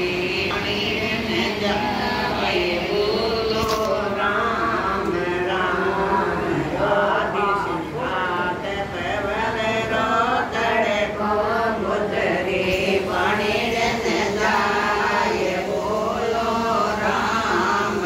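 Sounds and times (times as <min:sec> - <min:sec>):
women singing devotional song: 0:00.0 - 0:18.0.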